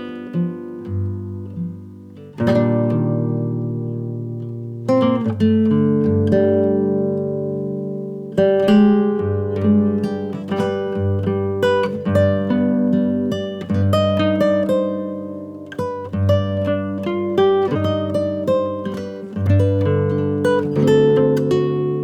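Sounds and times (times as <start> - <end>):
acoustic guitar picking: 0.0 - 22.0.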